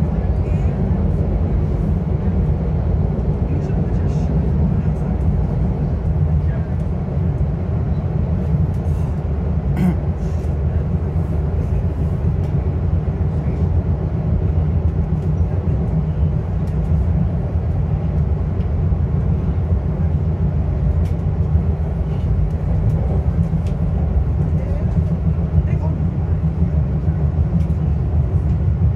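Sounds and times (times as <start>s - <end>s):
train car rumble: 0.0s - 28.9s.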